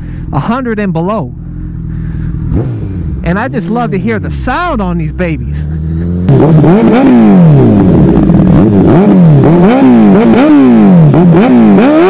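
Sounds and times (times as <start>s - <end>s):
motorcycle engine revving: 0.4s - 12.0s.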